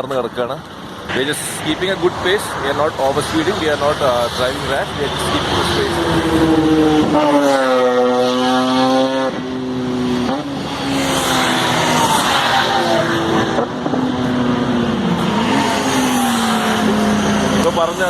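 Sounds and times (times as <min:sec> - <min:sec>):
motorcycle engine at speed: 0:03.1 - 0:18.0.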